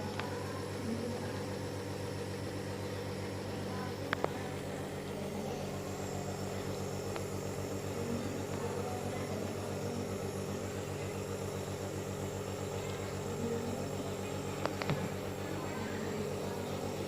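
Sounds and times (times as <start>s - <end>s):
nebulizer compressor humming: 0.0s - 17.0s.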